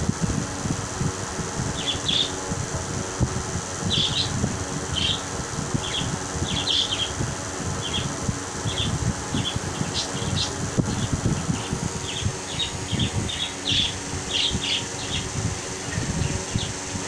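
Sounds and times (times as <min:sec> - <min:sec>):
small birds chirping: 0:01.6 - 0:02.4, 0:03.7 - 0:17.0.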